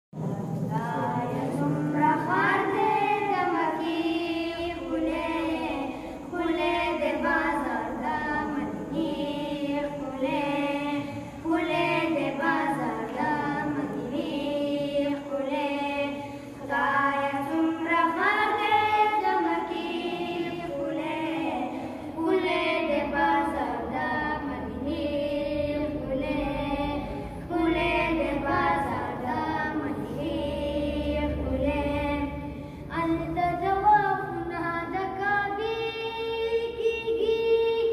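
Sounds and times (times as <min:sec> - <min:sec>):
boys singing unaccompanied: 0:00.2 - 0:37.9.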